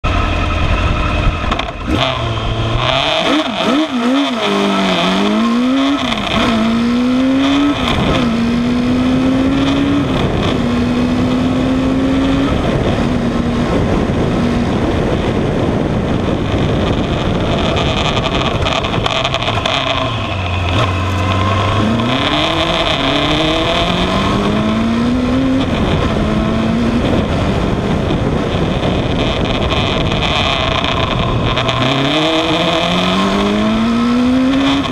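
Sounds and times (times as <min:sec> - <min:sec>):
motorcycle engine revving through gears: 0:00.0 - 0:34.9.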